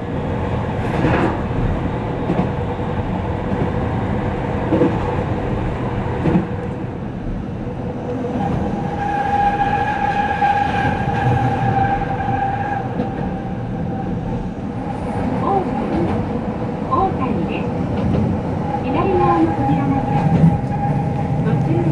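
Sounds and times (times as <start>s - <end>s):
train rumbling: 0.0s - 21.9s.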